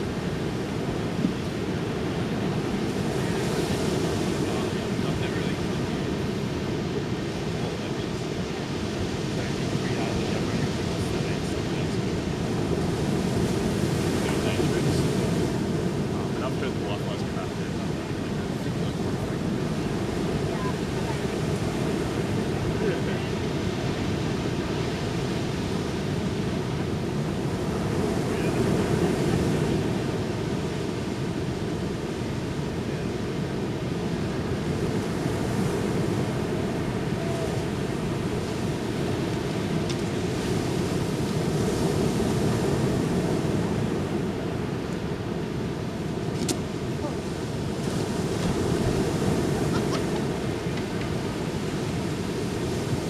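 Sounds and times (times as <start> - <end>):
waves breaking on a beach: 0.0 - 53.0.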